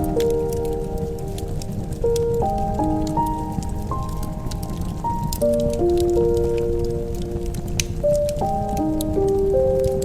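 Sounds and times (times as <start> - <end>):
fire crackling and popping: 0.0 - 10.0
slow calm music: 0.0 - 10.0.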